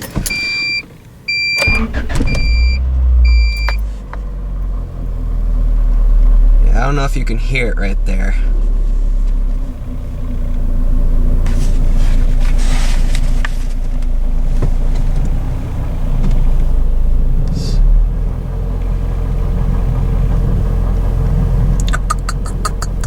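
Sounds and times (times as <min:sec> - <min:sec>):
car engine idling: 0:01.2 - 0:23.0.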